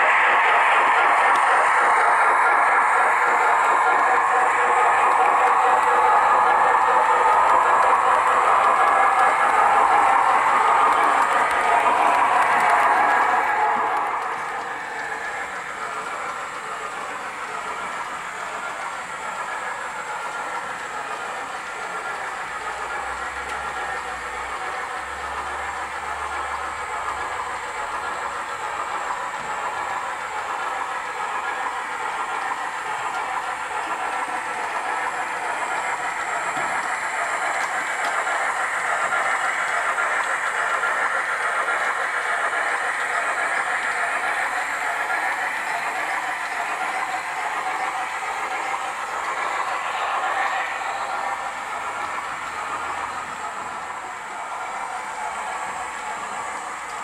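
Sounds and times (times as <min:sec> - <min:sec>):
model train running on track: 0:00.0 - 0:57.0.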